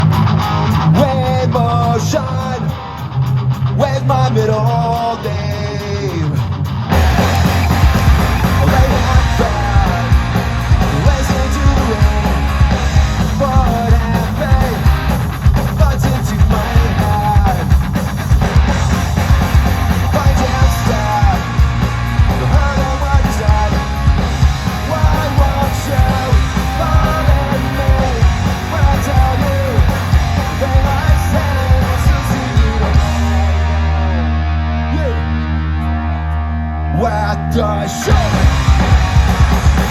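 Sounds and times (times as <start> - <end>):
drums: 0.0 - 36.3, 36.9 - 39.9
bass guitar: 0.0 - 39.9
distorted electric guitars: 0.0 - 39.9
person singing lead vocal: 0.8 - 3.0, 3.7 - 6.6, 8.4 - 17.7, 20.0 - 39.0.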